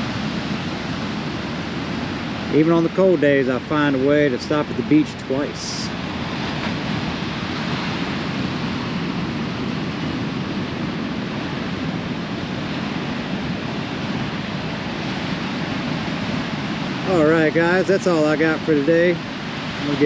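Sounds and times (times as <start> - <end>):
ocean surf breaking: 0.0 - 20.0
wind on microphone: 0.0 - 20.0.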